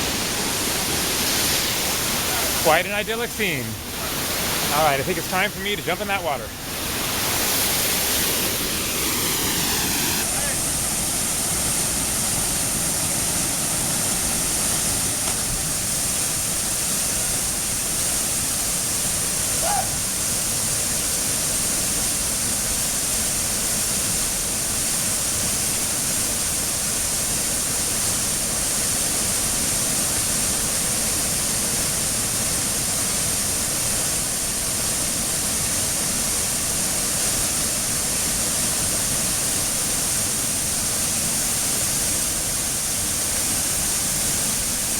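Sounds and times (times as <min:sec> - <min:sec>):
waterfall pouring into a pool: 0:03.4 - 0:44.9.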